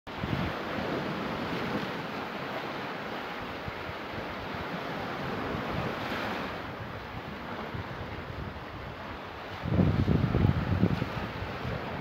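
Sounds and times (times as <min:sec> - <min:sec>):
wind buffeting microphone: 0:00.1 - 0:02.2, 0:03.5 - 0:12.0
sea waves washing on beach: 0:00.1 - 0:12.0.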